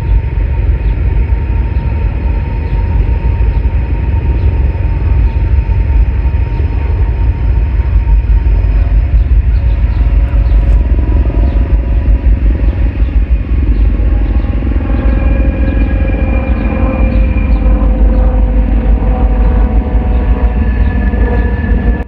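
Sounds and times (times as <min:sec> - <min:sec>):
freight train passing: 0:00.0 - 0:22.0.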